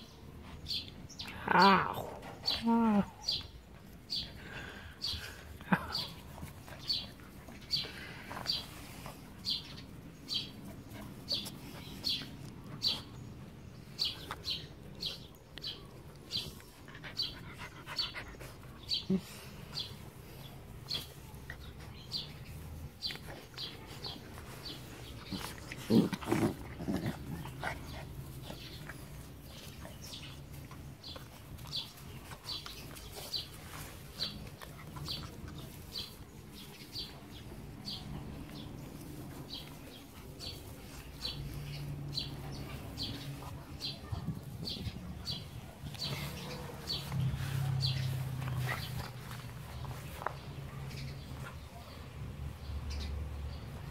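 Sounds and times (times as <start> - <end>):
puppies playing: 1.9 - 53.9.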